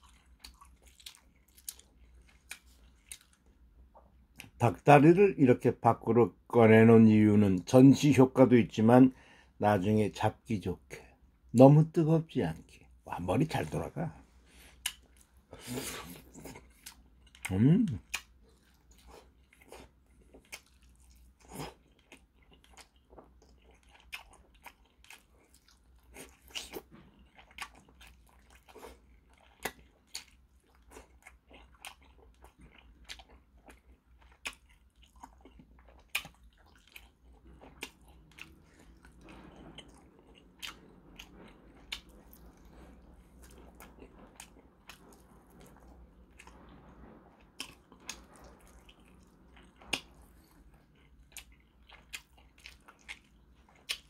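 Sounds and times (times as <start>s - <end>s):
man chewing chicken: 0.0s - 4.6s, 14.3s - 54.0s.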